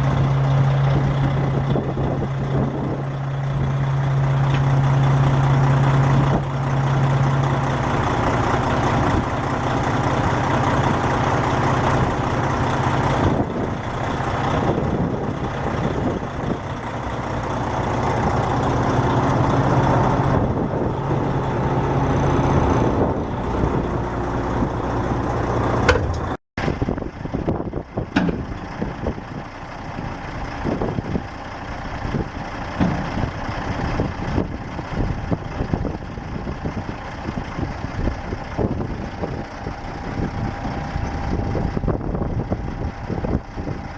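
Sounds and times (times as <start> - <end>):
heavy truck engine running: 0.0 - 43.9.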